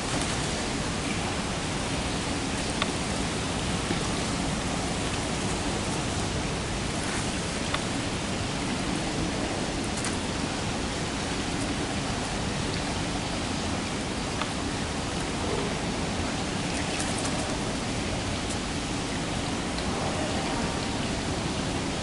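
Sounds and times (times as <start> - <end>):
water running over rocks: 0.0 - 22.0.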